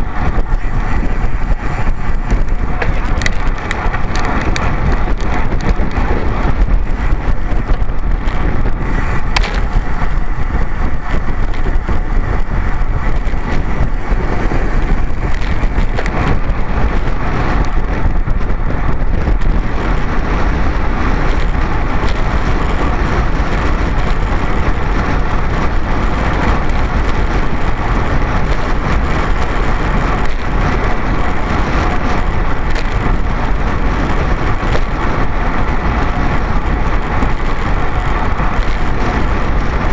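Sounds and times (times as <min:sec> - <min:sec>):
bicycle road noise: 0:00.0 - 0:39.9
deep rumble: 0:00.0 - 0:39.9
wind rush: 0:00.0 - 0:39.9.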